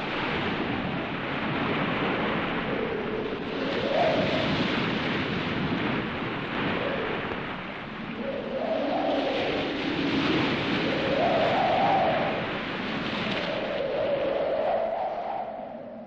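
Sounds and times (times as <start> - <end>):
wind rushing: 0.0 - 7.4, 8.0 - 16.0.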